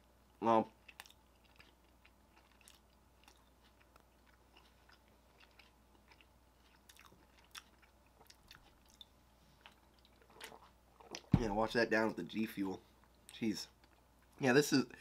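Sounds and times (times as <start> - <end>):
person chewing food: 0.3 - 11.3, 12.9 - 14.4.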